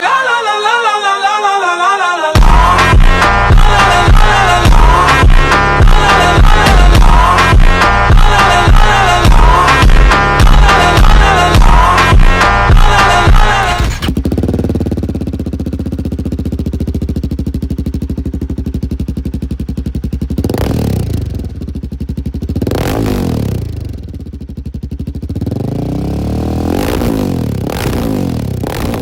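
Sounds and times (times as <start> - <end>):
engine revving: 2.4 - 29.0
motorcycle engine idling: 2.4 - 29.0.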